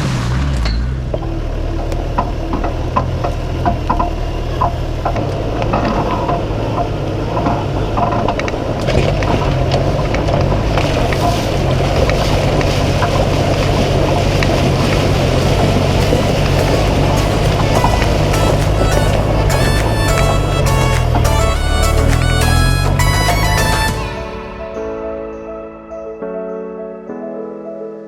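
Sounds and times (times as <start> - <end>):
vehicle engine drone: 0.0 - 24.3
road noise: 0.0 - 25.0.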